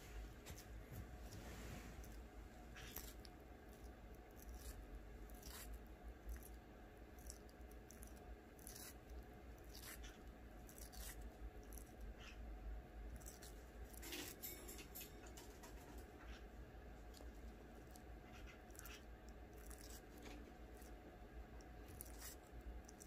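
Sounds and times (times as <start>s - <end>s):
lizard chewing apple crunches: 0.4s - 12.4s, 13.1s - 14.5s, 15.5s - 23.0s.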